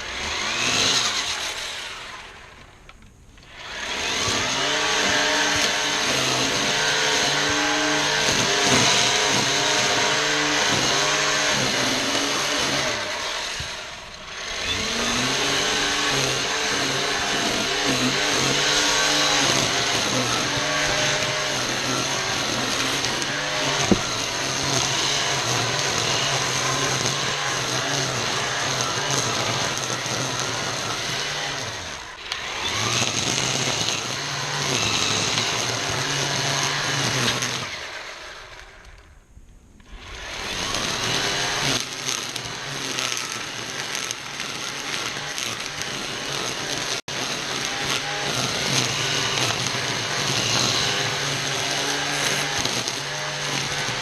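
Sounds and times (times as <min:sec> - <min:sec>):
string trimmer cutting grass: 0:00.0 - 0:39.2, 0:39.8 - 0:54.0.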